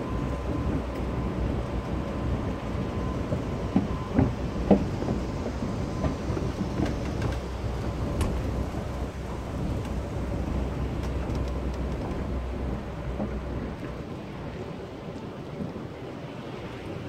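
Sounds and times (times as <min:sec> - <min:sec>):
low rumble of station ambience: 0:00.0 - 0:17.0.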